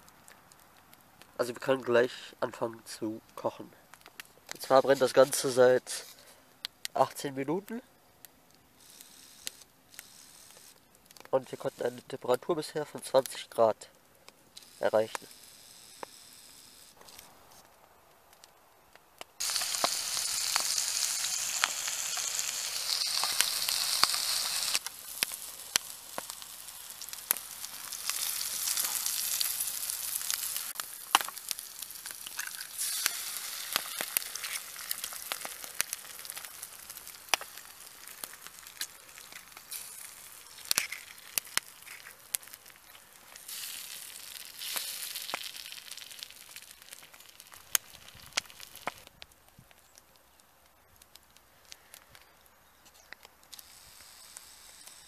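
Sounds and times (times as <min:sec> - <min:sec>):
burning wood crackling: 0:00.0 - 0:55.0
fire sizzling and hissing: 0:00.0 - 0:55.0.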